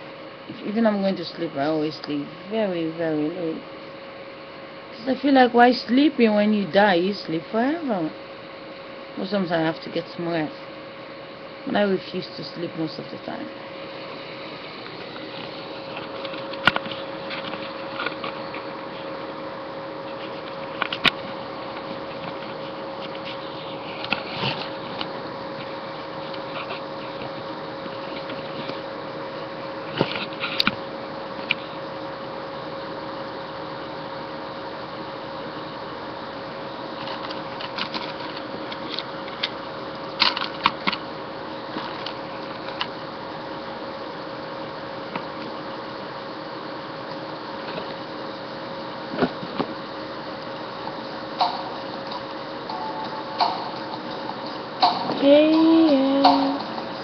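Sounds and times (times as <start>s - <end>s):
steady hum and hiss: 0.0s - 57.0s.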